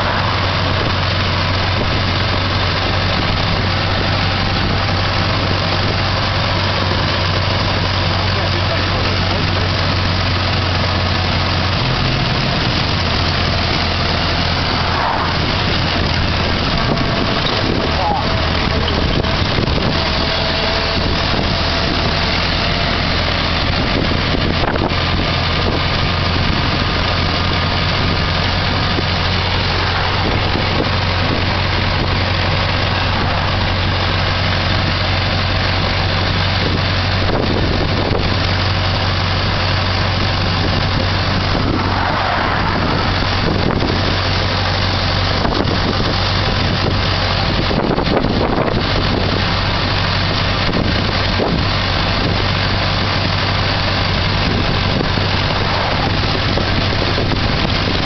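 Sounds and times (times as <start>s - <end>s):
car engine running: 0.0s - 58.0s
wind and road noise: 0.0s - 58.0s.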